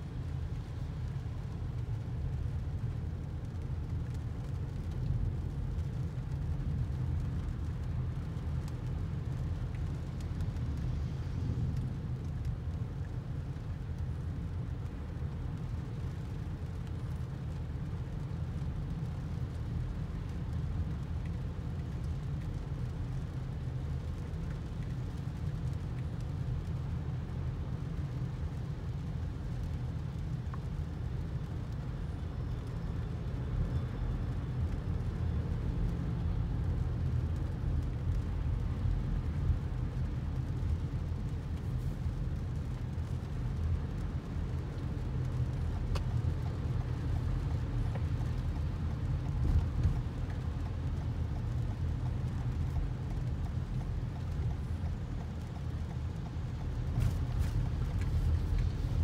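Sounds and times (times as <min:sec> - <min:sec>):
low rumble inside car cabin: 0:00.0 - 0:59.0.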